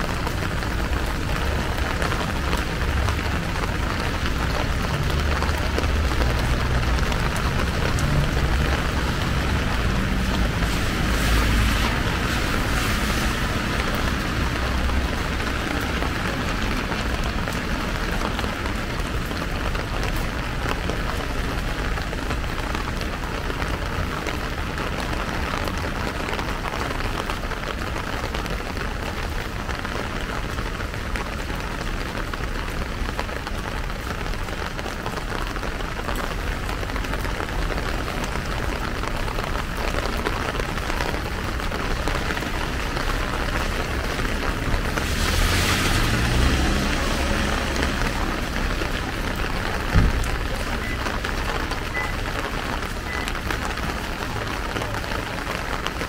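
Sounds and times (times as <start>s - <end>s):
rain on a plastic umbrella: 0.0s - 56.0s
rain on wet paving: 0.0s - 56.0s.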